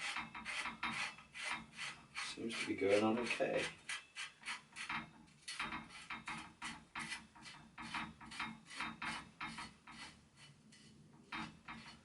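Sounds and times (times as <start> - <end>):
metal cap rasping on threads: 0.0 - 12.0.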